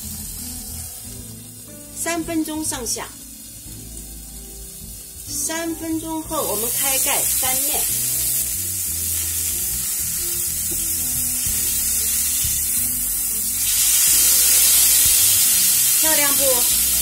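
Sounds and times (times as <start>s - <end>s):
steak sizzling in a skillet: 0.0s - 17.0s.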